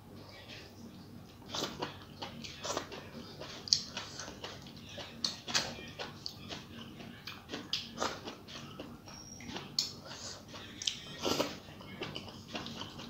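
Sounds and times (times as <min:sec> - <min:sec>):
wet chewing and lip-smacking: 0:01.5 - 0:13.0.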